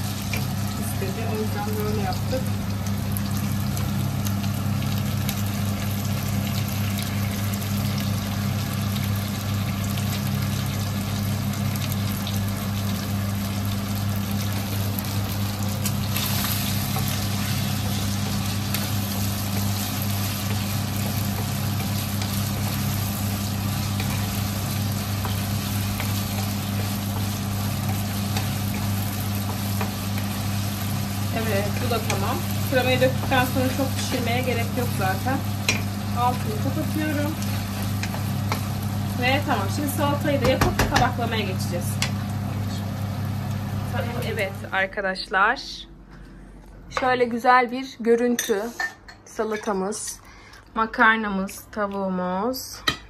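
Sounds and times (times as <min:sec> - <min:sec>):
food sizzling in frying pan: 0:00.0 - 0:44.8.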